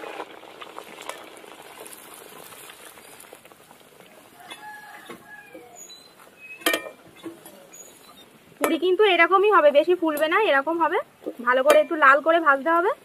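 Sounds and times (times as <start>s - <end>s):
oil sizzling and bubbling: 0.0s - 13.0s.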